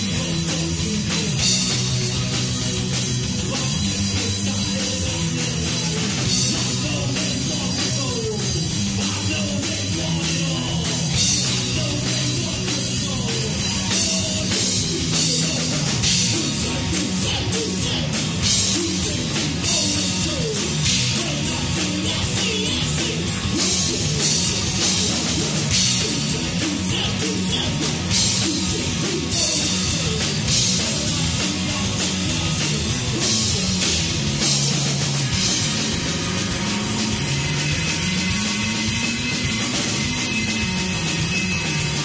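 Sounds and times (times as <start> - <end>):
bass guitar: 0.0 - 42.0
drum kit with cymbals: 0.0 - 42.0
electric guitar: 0.0 - 42.0.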